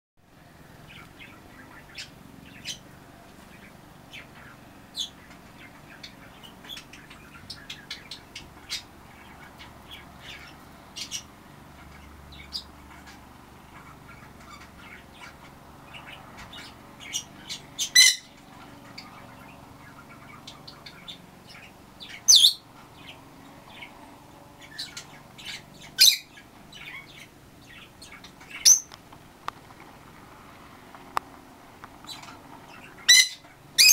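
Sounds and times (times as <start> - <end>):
songbirds chirping: 0.3 - 33.9.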